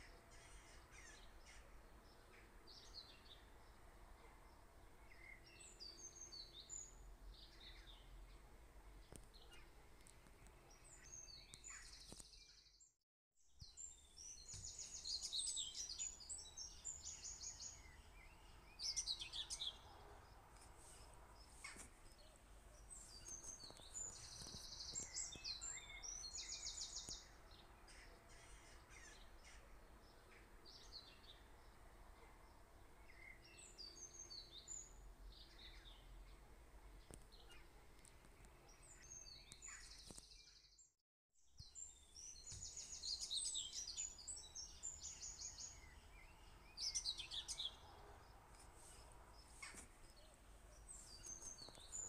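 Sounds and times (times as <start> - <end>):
small songbirds chirping: 0.0 - 52.0.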